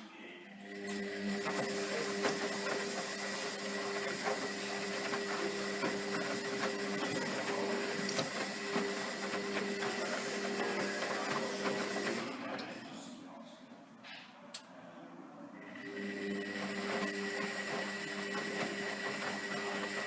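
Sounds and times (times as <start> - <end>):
washing machine humming: 0.5 - 12.9, 15.6 - 20.0.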